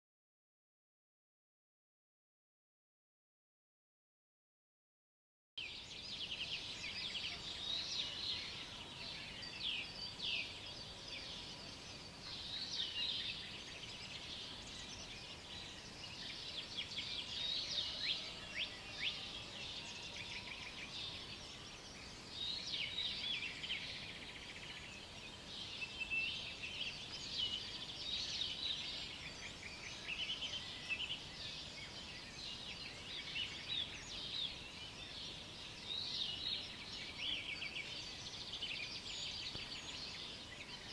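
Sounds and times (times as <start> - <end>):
faint background hiss: 5.6 - 40.9
small birds singing: 5.6 - 40.9.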